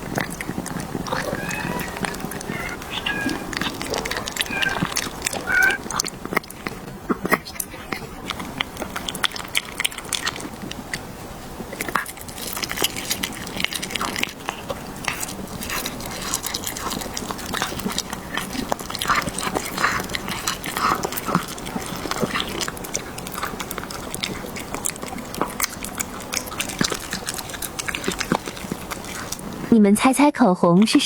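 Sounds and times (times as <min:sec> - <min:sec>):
cat chewing food: 0:00.0 - 0:29.8, 0:30.8 - 0:31.0.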